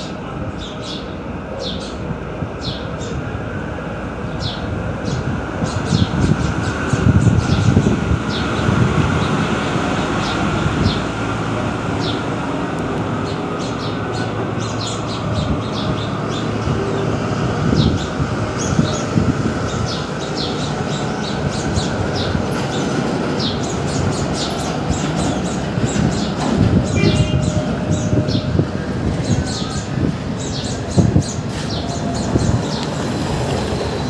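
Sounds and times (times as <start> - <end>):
small birds chirping: 0.0 - 3.4, 4.2 - 11.1, 13.1 - 34.0.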